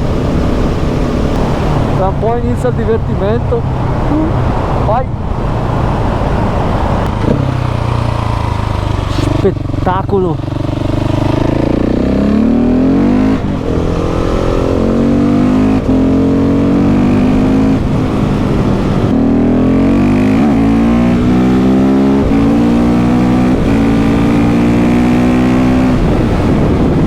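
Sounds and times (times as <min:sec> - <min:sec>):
motorcycle engine pulling under throttle: 0:00.0 - 0:27.0.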